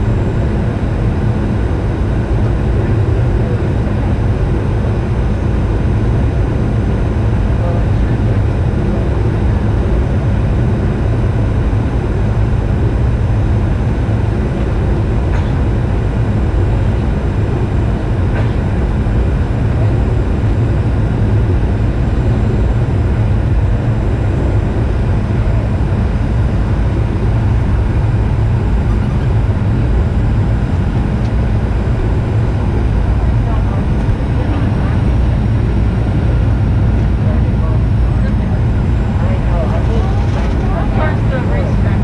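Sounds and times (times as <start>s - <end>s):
airplane cabin drone: 0.0s - 42.0s.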